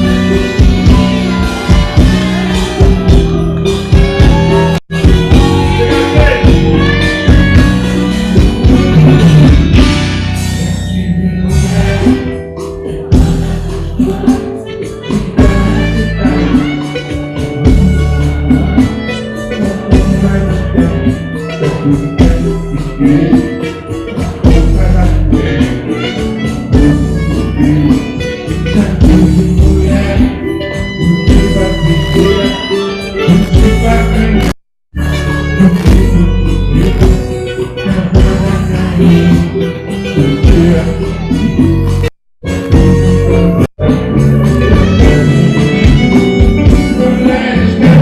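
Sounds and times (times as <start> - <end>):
samba band music: 0.0 - 10.7, 11.5 - 48.0
man singing into microphone: 4.0 - 9.8, 11.0 - 42.0, 42.6 - 48.0.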